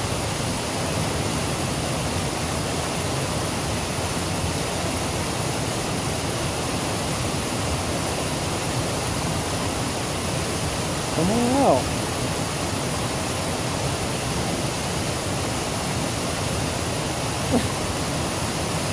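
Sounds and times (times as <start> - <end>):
creek water rushing: 0.0 - 18.9.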